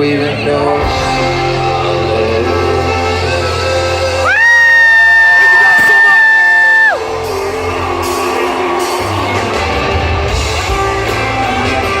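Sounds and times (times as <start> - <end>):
country-rock band music: 0.0 - 12.0.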